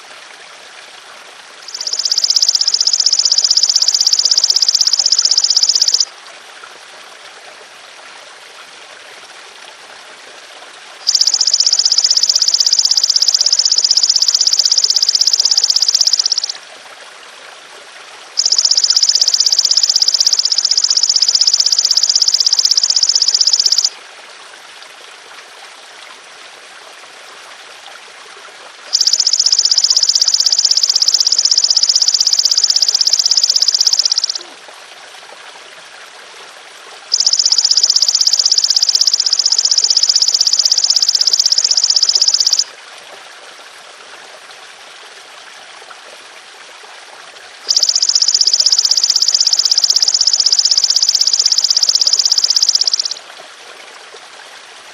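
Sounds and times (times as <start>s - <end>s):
water trickling: 0.0s - 54.9s.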